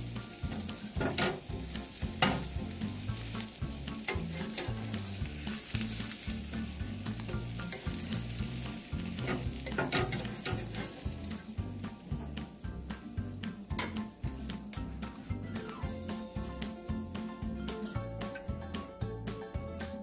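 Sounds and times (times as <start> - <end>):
batter sizzling in oil: 0.0 - 18.3.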